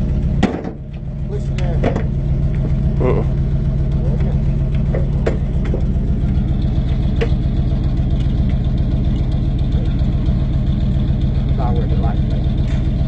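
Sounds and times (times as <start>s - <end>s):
truck engine idling loudly: 0.0s - 13.0s.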